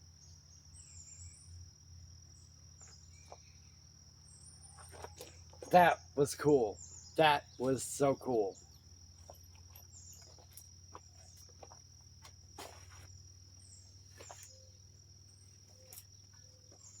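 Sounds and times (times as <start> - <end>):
cricket trill: 0.0 - 17.0.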